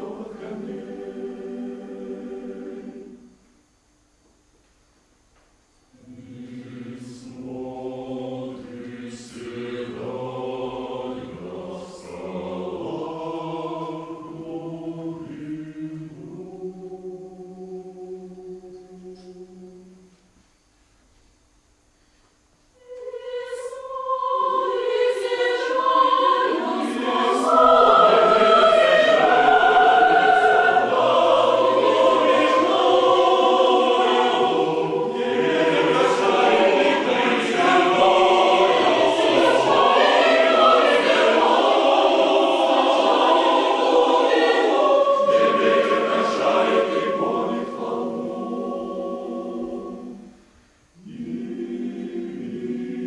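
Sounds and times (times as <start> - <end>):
choir singing in chords: 0.0 - 3.8, 5.9 - 20.2, 22.8 - 53.0.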